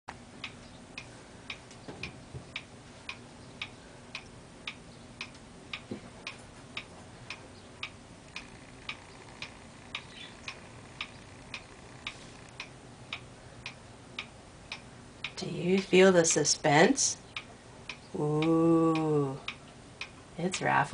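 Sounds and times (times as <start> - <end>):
pendulum clock ticking: 0.1 - 20.9.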